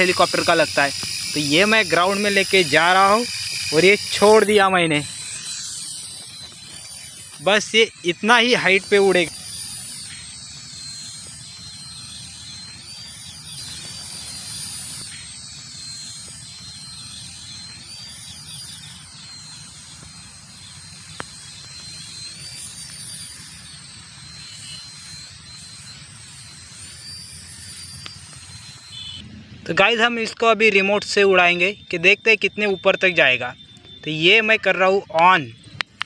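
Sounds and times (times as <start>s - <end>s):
toy helicopter rotors whining: 0.0s - 36.0s.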